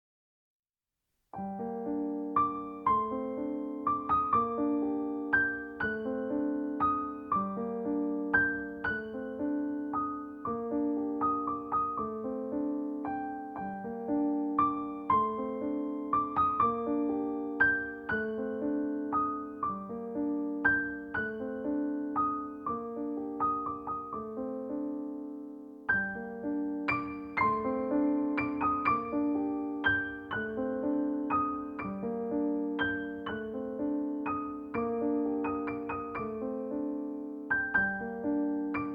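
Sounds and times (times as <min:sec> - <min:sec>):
gentle piano music: 0:01.3 - 0:38.9.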